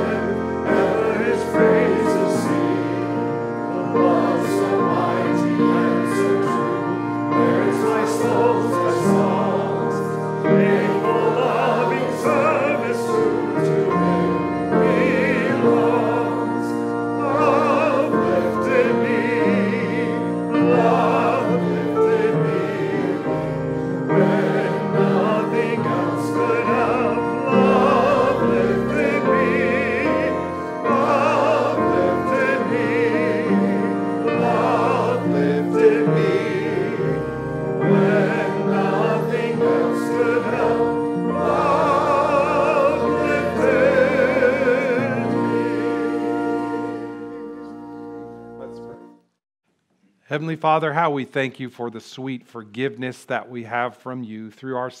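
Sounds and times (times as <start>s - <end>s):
voices singing a hymn: 0.0s - 49.0s
instrumental accompaniment: 0.0s - 49.4s.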